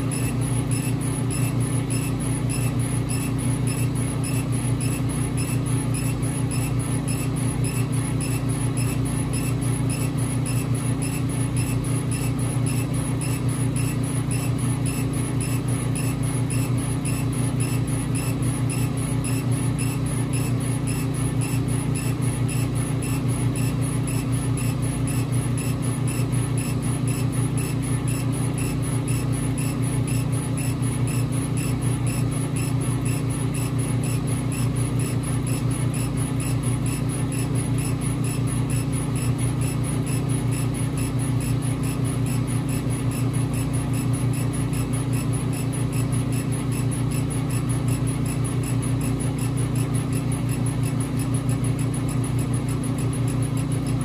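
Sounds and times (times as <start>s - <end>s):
machine low hum: 0.0s - 54.0s.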